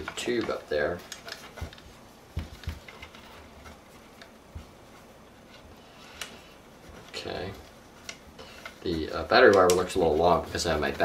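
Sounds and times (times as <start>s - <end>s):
soft rustling of wires: 0.0s - 11.0s.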